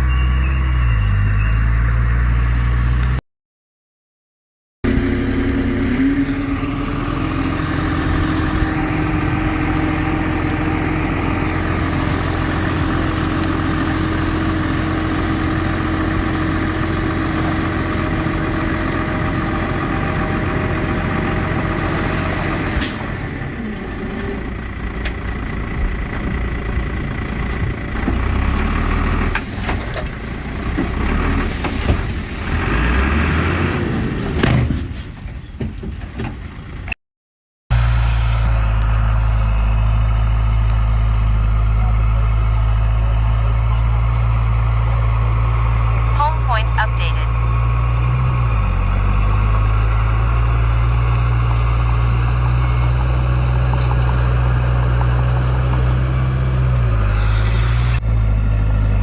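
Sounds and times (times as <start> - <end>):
heavy diesel engine droning: 4.8 - 37.0, 37.7 - 59.0.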